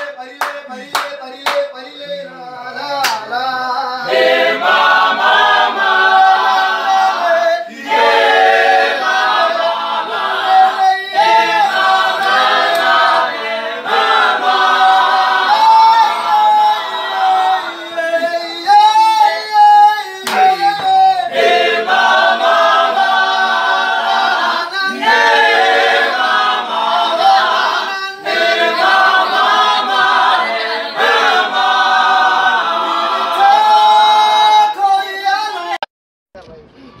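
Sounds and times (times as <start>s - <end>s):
men's a cappella group singing: 0.0s - 35.9s.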